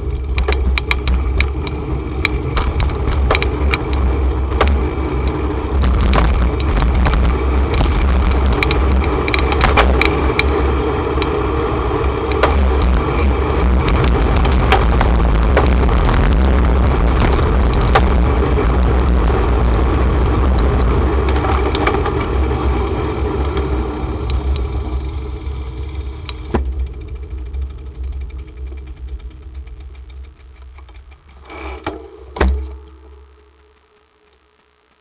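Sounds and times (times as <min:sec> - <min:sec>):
wind on microphone: 0:00.0 - 0:30.2
road rumble: 0:00.0 - 0:33.6
bicycle freewheel ticking: 0:00.0 - 0:35.0.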